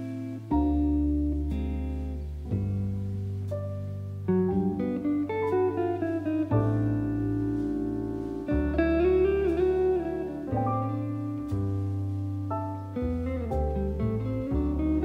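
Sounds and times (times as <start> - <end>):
low bass line: 0.0 - 15.0
plucked guitar melody: 0.0 - 15.0.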